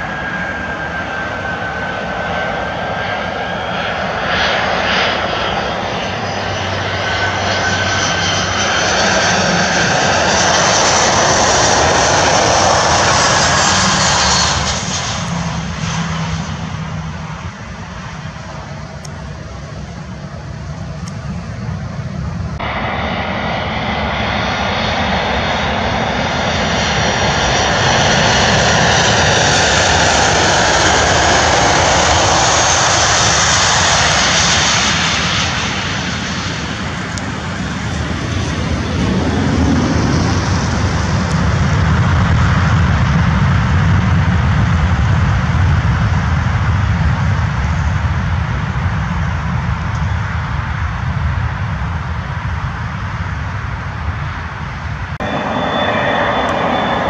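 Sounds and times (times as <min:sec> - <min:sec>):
deep jet rumble: 0:00.0 - 0:57.0
jet engine whine and hiss: 0:00.0 - 0:57.0.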